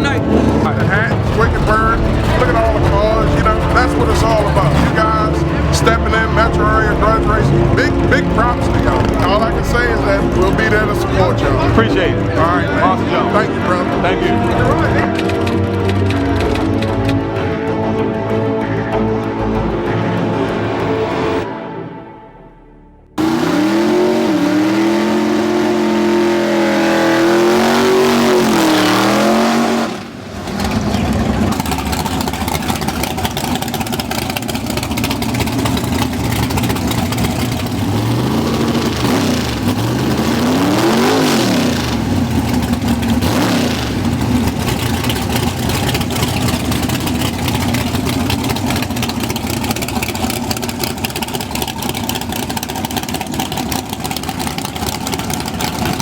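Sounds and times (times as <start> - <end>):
race car engines revving: 0.0 - 17.9, 23.2 - 56.0.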